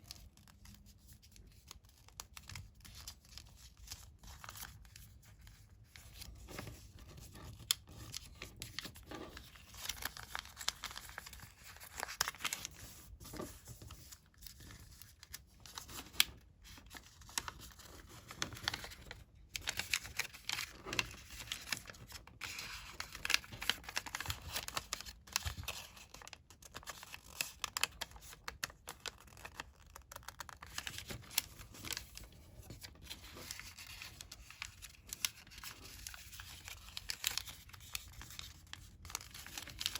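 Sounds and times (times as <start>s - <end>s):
paper rustling and crinkling: 0.0s - 39.9s
paper crackling as folds pressed: 0.1s - 39.9s.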